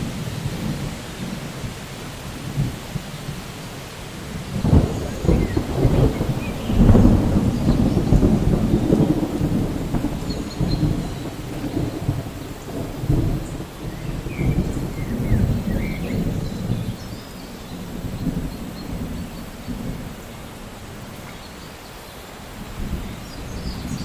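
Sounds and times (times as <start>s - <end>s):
rolling thunder rumble: 0.0s - 21.4s, 22.5s - 24.0s
steady rain: 0.0s - 24.0s.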